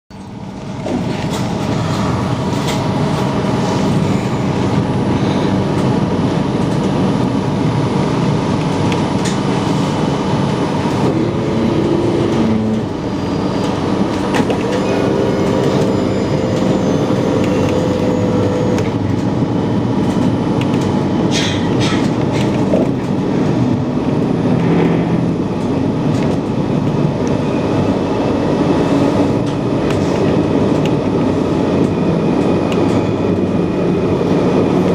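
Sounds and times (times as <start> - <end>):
tram wheels rumbling: 0.1 - 34.9
tram whine: 0.1 - 34.9.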